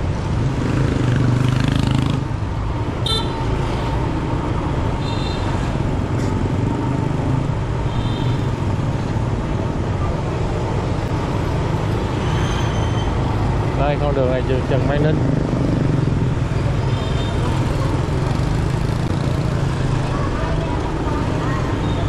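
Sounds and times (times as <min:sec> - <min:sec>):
traffic engine and road rumble: 0:00.0 - 0:22.0.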